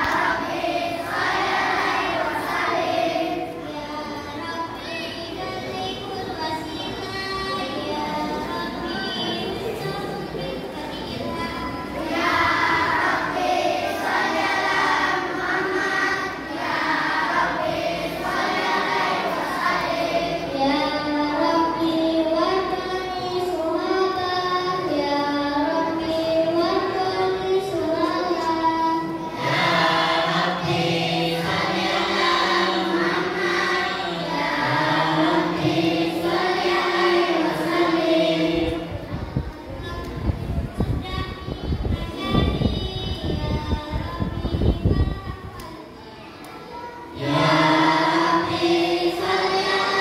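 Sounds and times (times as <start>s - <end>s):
children singing in unison: 0.0s - 45.6s, 46.6s - 50.0s.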